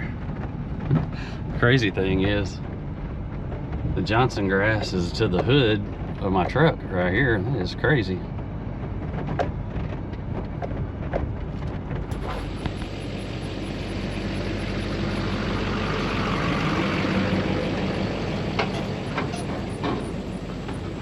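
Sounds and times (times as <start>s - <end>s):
truck engine hum: 0.0s - 21.0s.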